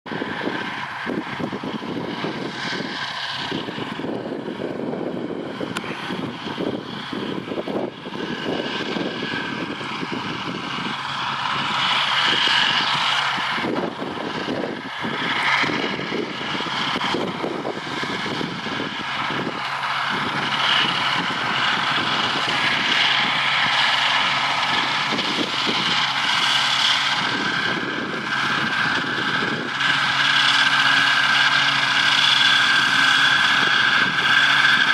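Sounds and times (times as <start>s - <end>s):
tractor diesel engine running: 0.0s - 34.9s
mower cutting hay: 0.1s - 34.9s.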